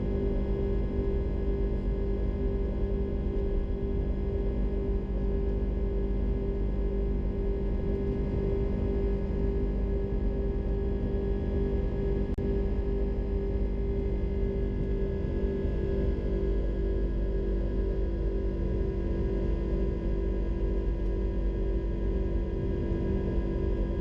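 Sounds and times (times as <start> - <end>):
jet engine drone in cabin: 0.0 - 24.0.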